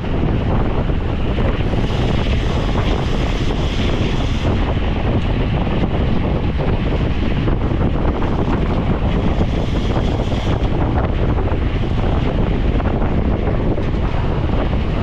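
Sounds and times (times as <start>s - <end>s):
wind rush buffeting microphone: 0.0s - 15.0s.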